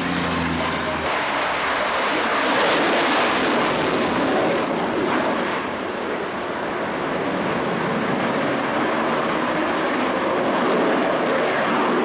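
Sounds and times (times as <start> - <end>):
fighter jet afterburner roar: 0.0 - 12.0
propeller plane droning: 0.0 - 12.0.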